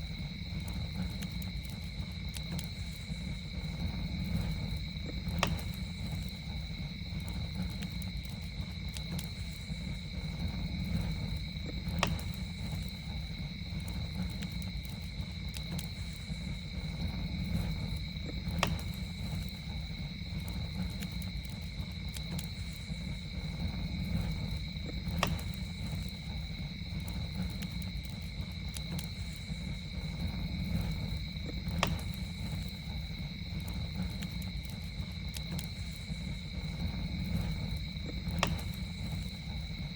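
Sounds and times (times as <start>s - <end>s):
campfire crackling: 0.0s - 39.9s
night insects droning: 0.0s - 39.9s.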